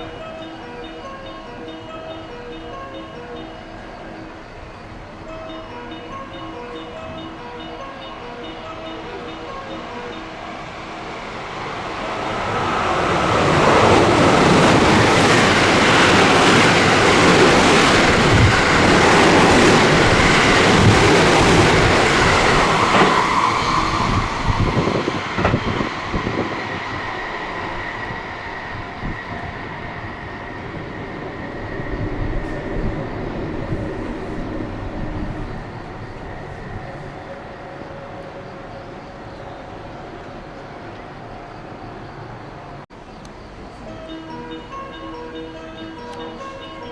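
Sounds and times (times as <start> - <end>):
train passing at speed: 0.0 - 46.9.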